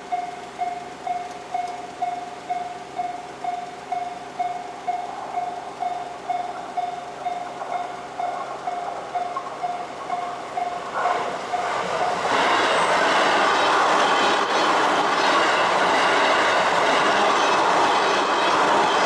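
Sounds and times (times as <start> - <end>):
level-crossing warning bell: 0.0 - 19.0
train wheels clacking on rails: 0.0 - 19.0.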